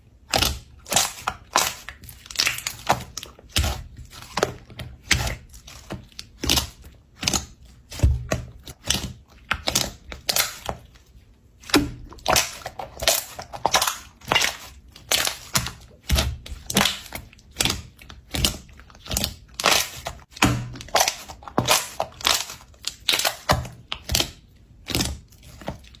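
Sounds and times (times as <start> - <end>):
slime popping and crackling: 0.2 - 11.0, 11.6 - 26.0.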